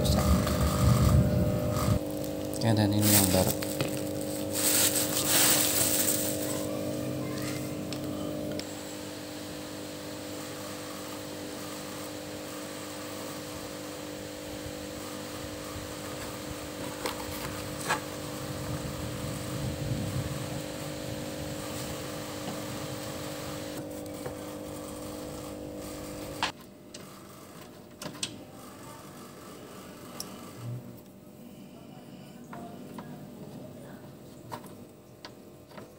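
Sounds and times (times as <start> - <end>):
electric cooling fan humming: 0.0 - 35.9.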